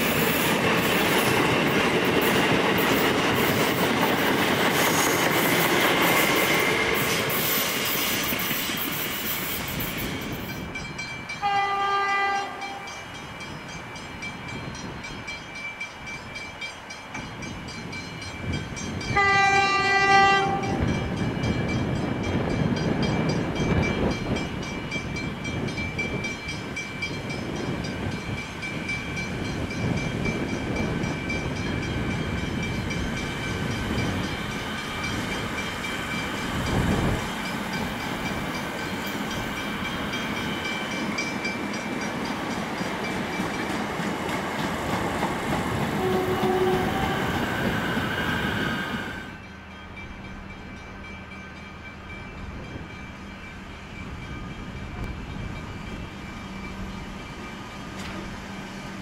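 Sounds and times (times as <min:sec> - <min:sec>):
distant train low hum: 0:00.0 - 0:59.0
train wheels rumbling on track: 0:00.0 - 0:59.0.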